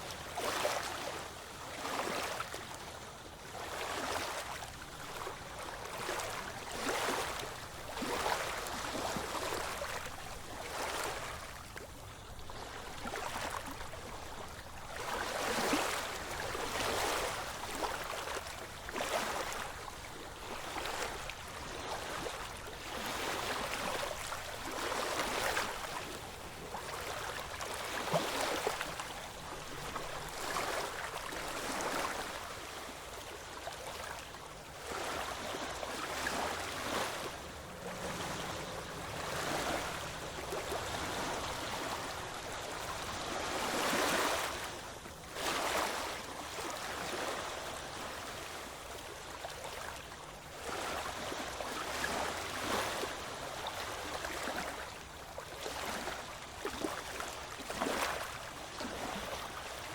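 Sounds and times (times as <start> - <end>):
ocean waves on shore: 0.0 - 59.9.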